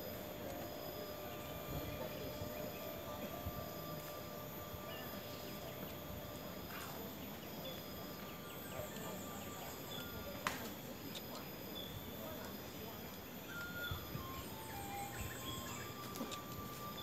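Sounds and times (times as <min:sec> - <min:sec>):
steady background hiss: 0:00.0 - 0:17.0
thin insect tones: 0:00.0 - 0:17.0.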